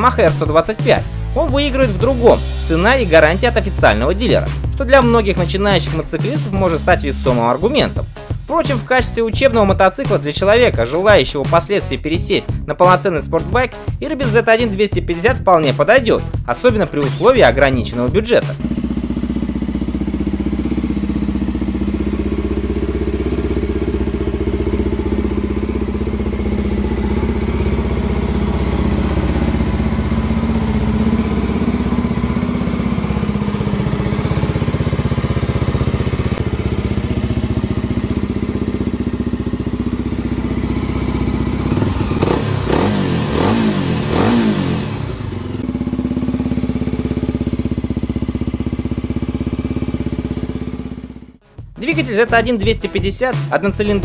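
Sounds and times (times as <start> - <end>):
motorcycle engine idling and revving: 0.0 - 51.4.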